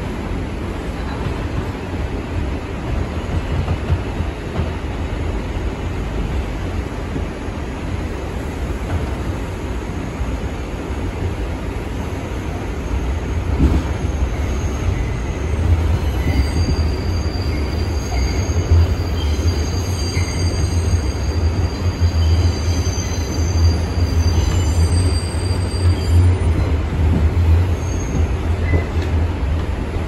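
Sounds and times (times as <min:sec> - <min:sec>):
wheels rumbling on rails: 0:00.2 - 0:30.0.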